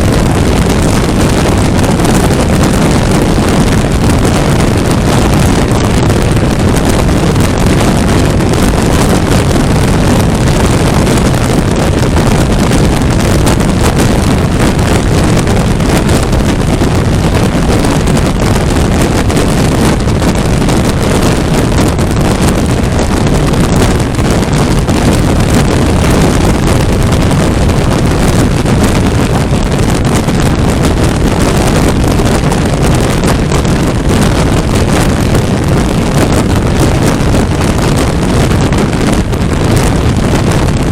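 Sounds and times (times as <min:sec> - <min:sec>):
road noise: 0:00.0 - 0:40.9
wind rushing over microphone: 0:00.0 - 0:40.9.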